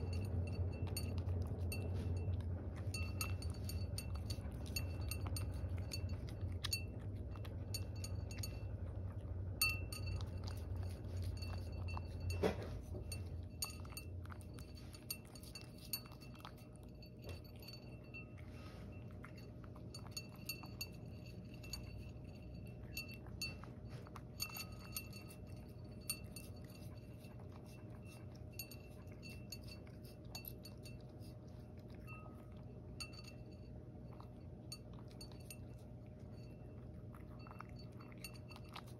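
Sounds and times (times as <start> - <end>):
cat chewing: 0.0 - 38.9
collar clinking against ceramic bowl: 0.0 - 38.9
low background hum: 0.0 - 38.9.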